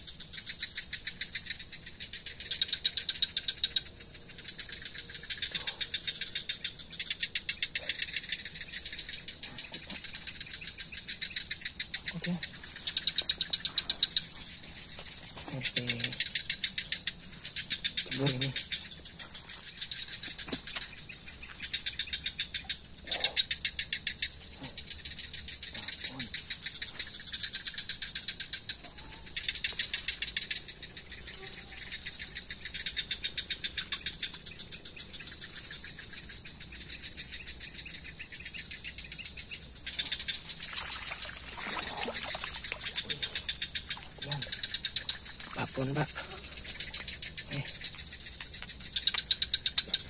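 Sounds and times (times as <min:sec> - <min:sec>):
crickets trilling: 0:00.0 - 0:50.0
high-pitched insect buzz: 0:07.8 - 0:50.0.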